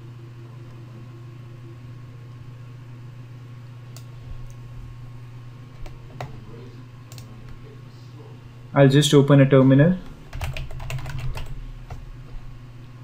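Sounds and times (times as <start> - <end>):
low electrical hum and hiss: 0.0 - 13.0.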